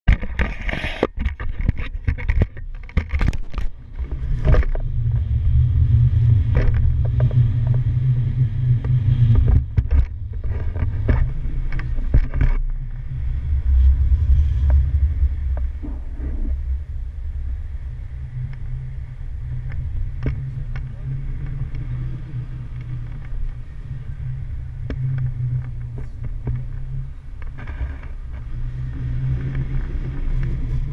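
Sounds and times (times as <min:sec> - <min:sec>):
wind rushing over microphone: 0:00.1 - 0:30.9.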